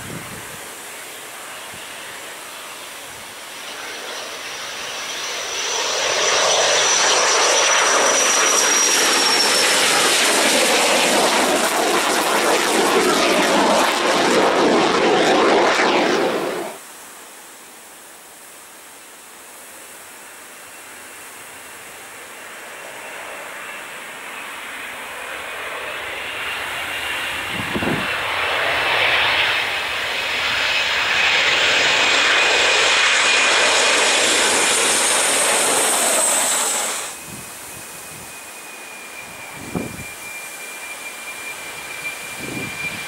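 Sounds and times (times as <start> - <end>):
jet engines whining: 0.0 - 16.8, 20.6 - 43.0.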